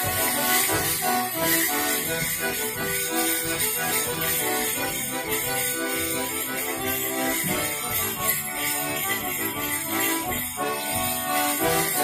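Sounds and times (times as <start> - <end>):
concertina dance tune: 0.0 - 12.0
leg bells jingling: 0.0 - 12.0.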